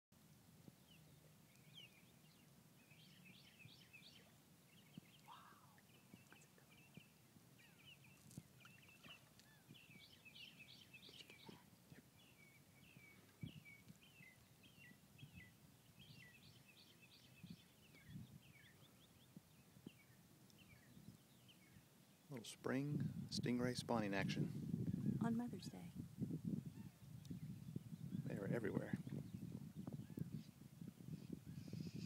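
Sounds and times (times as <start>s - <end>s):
birds chirping: 0.7s - 32.0s.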